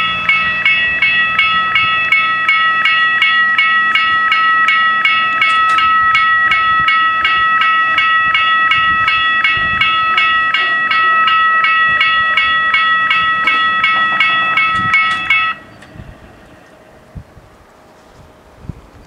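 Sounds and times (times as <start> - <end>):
level crossing warning bells ringing: 0.0 - 17.2.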